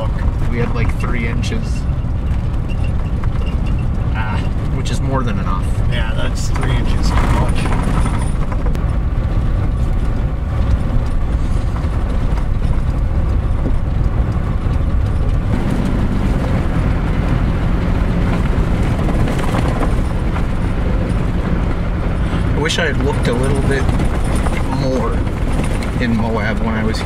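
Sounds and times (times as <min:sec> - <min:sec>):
engine hum: 0:00.0 - 0:27.0
light rattling: 0:00.0 - 0:27.0
tyres rumbling on dirt trail: 0:00.0 - 0:27.0.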